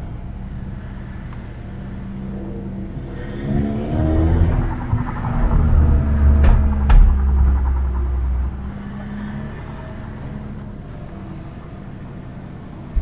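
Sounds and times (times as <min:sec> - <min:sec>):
car engine rumbling: 0:00.0 - 0:13.0
exhaust cracks: 0:00.1 - 0:13.0.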